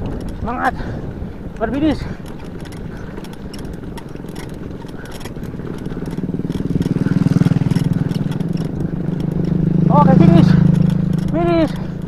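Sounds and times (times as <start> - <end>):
bicycle tyres crunching on stones: 0.0 - 12.0
bike rattling: 0.0 - 12.0.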